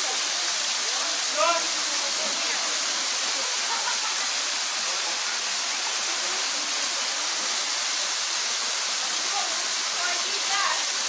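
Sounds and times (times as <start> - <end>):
waterfall cascading into pool: 0.0 - 11.0.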